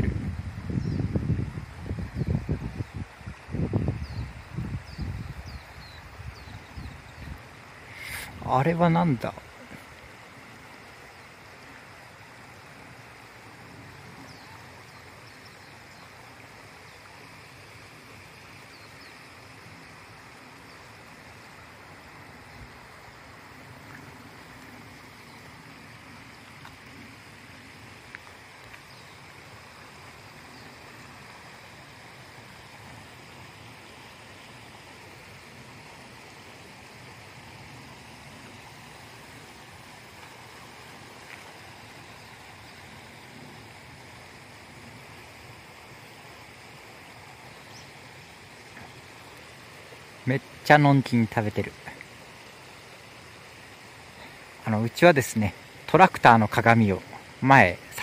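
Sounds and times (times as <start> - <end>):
faint outdoor hiss: 0.0 - 58.0.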